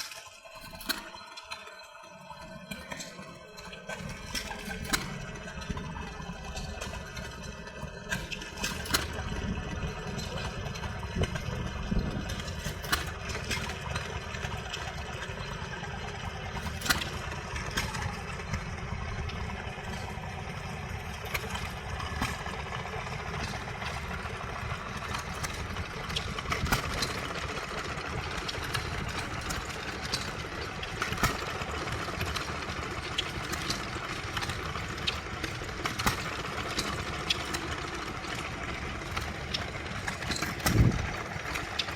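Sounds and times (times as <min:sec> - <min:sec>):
stationary engine rumbling: 0:01.8 - 0:41.9.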